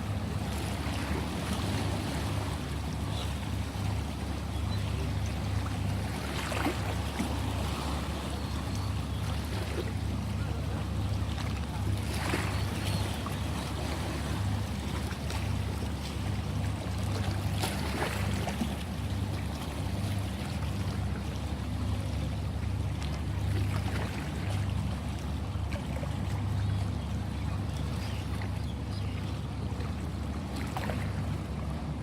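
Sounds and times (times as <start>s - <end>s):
sea waves washing: 0.0s - 26.6s
continuous low rumble: 0.0s - 32.0s.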